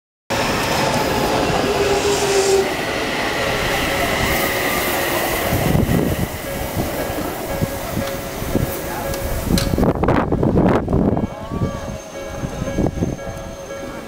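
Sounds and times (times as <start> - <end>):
train rumbling over rails: 0.3 - 14.0.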